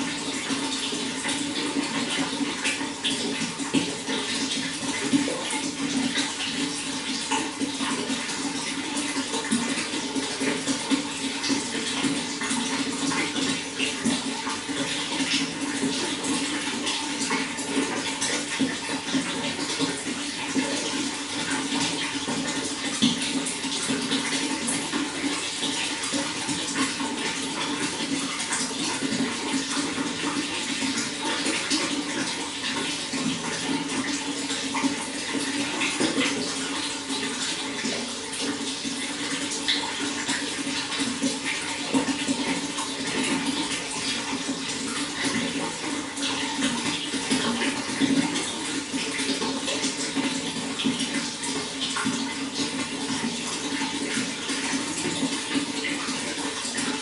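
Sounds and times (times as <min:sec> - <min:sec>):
running water with splashes: 0:00.0 - 0:57.0.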